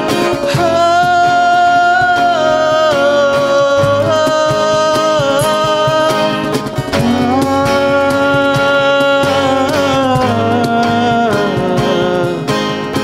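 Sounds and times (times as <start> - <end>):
man singing long notes: 0.0 - 12.9
cajon beats: 0.0 - 13.0
strummed acoustic guitar: 0.0 - 13.0.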